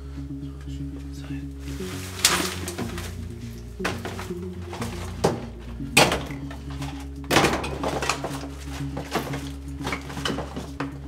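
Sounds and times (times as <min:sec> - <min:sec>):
background music with low tones: 0:00.0 - 0:11.0.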